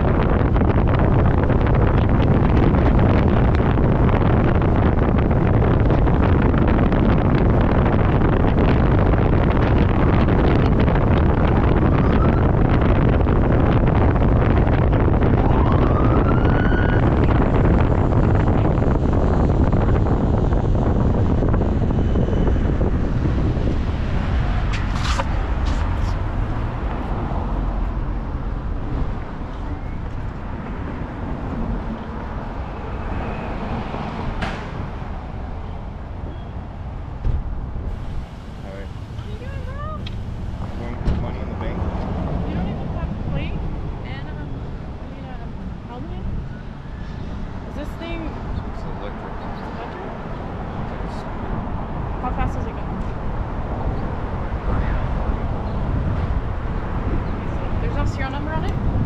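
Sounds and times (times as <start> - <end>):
motorcycle engine and road rumble: 0.0 - 59.0
wind rushing over microphone: 0.0 - 59.0.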